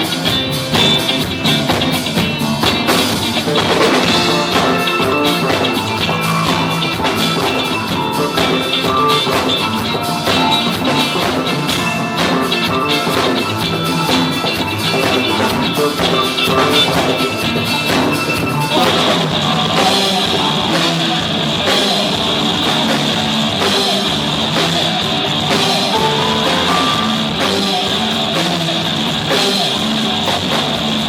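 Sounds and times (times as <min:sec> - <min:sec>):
drum kit beat: 0:00.0 - 0:31.0
electric guitar riff: 0:00.0 - 0:31.0
rock band playing: 0:00.0 - 0:31.0.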